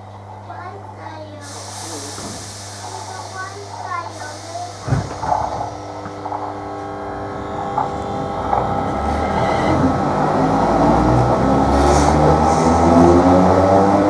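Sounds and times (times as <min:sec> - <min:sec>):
train traction motors whining: 0:00.0 - 0:14.0.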